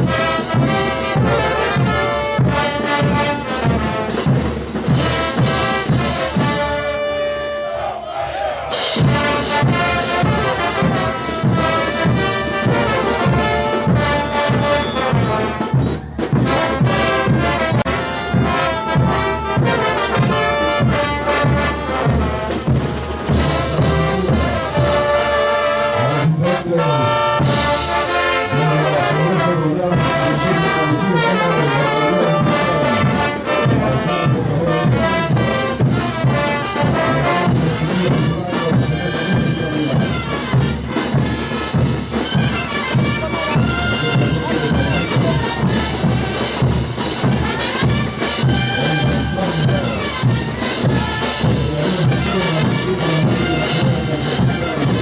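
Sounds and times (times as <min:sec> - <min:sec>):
drums and cymbals beat: 0:00.0 - 0:07.7, 0:08.6 - 0:55.0
brass band playing: 0:00.0 - 0:55.0.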